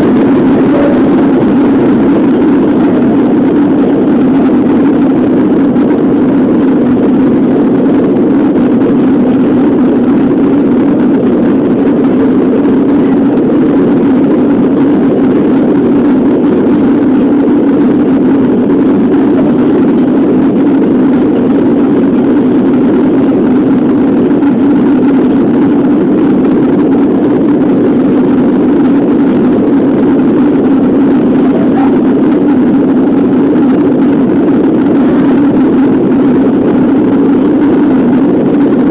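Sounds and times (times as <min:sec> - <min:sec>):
jet engine roar in cabin: 0:00.0 - 0:38.9.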